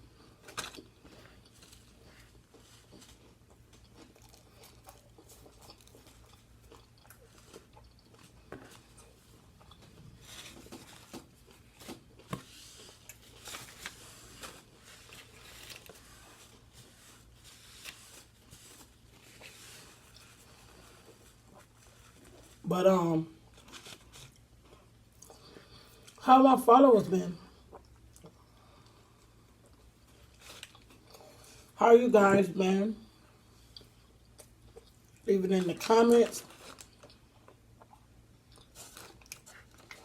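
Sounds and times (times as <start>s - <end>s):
person chewing sandwich: 0.0s - 22.6s, 23.4s - 26.2s, 27.5s - 31.8s, 33.1s - 35.3s, 36.5s - 40.0s.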